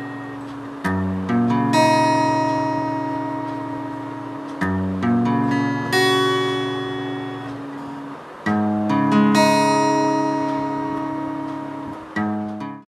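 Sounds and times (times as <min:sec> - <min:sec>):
acoustic guitar chords: 0:00.0 - 0:12.9.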